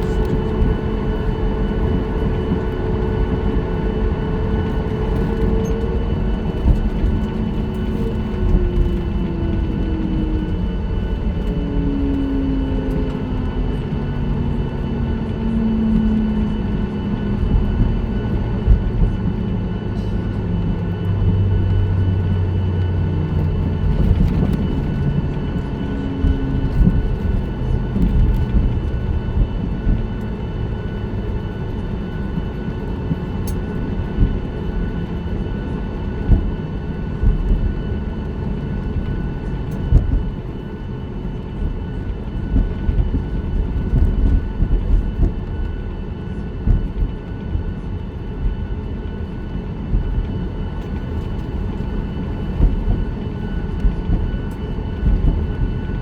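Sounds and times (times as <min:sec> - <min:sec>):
aircraft engine hum: 0:00.0 - 0:56.0.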